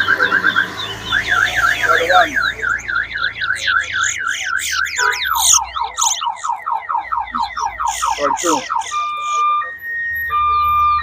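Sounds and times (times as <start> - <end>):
finch singing whistled notes: 0.0 - 9.8.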